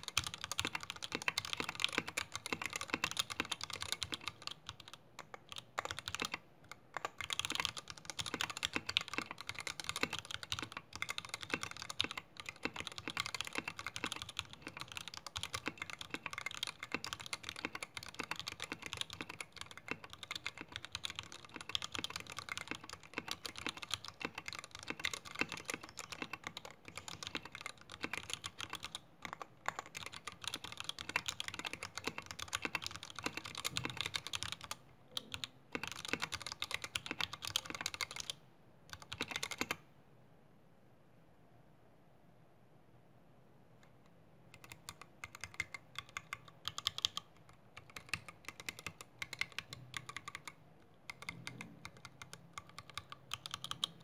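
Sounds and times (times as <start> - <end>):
typing on mechanical keyboard: 0.0 - 39.8, 44.5 - 54.0.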